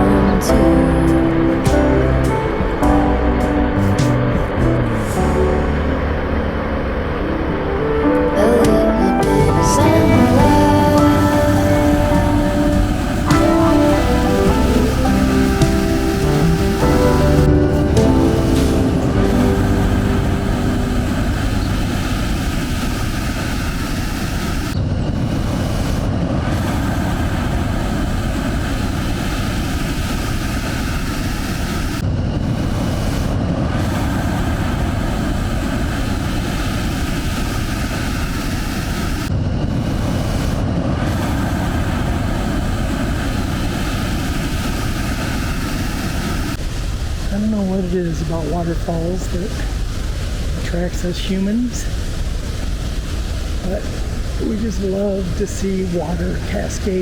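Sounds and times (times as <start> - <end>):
large waterfall rushing: 0.0 - 57.0.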